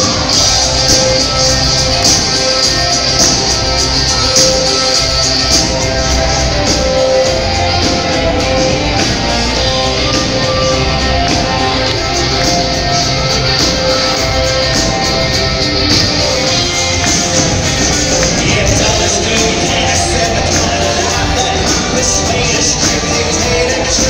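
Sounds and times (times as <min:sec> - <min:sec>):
drums: 0:00.0 - 0:24.0
electric guitar: 0:00.0 - 0:24.0
live band playing loudly: 0:00.0 - 0:24.0.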